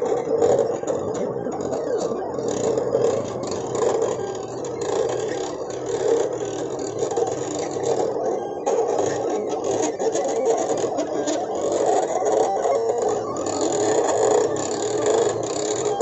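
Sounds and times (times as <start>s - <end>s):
cutting machine motors whirring: 0.0s - 16.0s.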